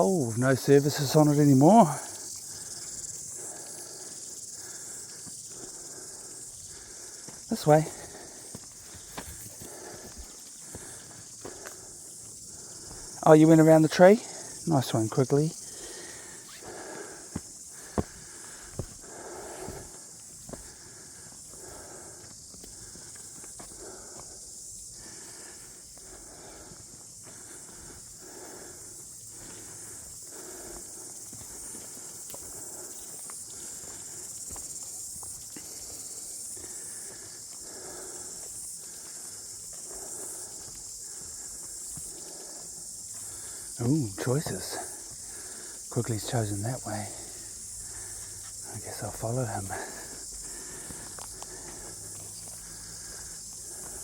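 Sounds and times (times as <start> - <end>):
footsteps crunching on trail: 0.0 - 54.0
high-pitched hiss: 0.0 - 54.0
high-pitched insect buzz: 0.8 - 54.0.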